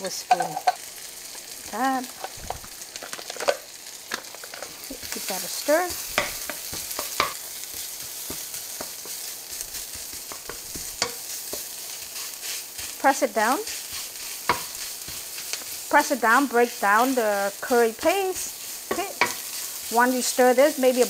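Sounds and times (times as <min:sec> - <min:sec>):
sizzling in hot oil: 0:00.0 - 0:21.0
spoon scraping wok: 0:00.1 - 0:21.0.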